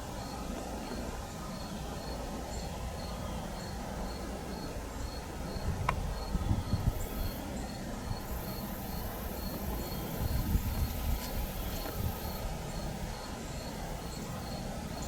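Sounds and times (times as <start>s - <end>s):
crickets chirping: 0.0s - 15.0s
high steady insect trill: 0.0s - 15.0s.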